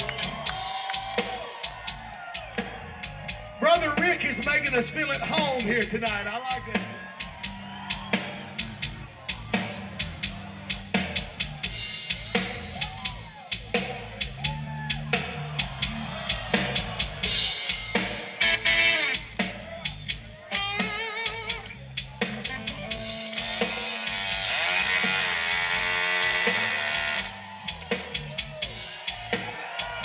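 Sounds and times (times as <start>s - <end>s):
hard rock band playing: 0.0s - 30.0s.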